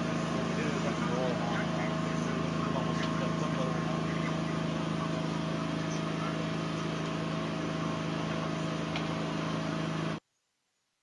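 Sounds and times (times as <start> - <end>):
constant hum: 0.0 - 10.2.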